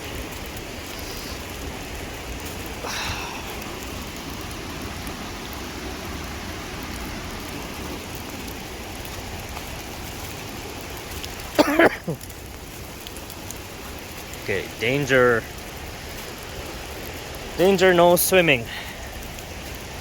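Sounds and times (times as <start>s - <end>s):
rain and sleet falling: 0.0s - 20.0s.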